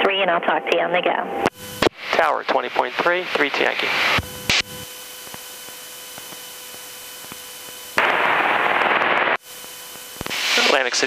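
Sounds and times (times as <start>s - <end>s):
thin hum: 1.3s - 10.9s
loud burst of radio static: 1.5s - 11.0s
faint radio hiss: 1.6s - 11.0s.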